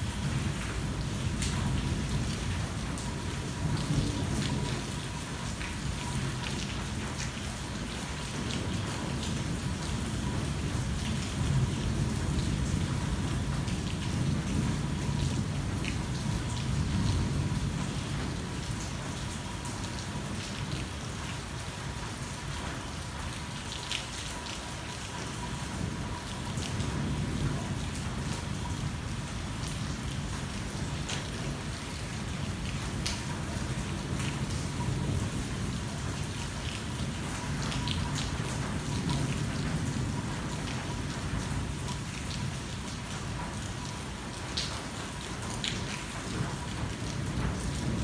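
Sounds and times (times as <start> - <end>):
low rumble of thunder: 0.0 - 20.8, 25.6 - 42.8, 46.2 - 48.0
rain on car roof: 0.0 - 48.0.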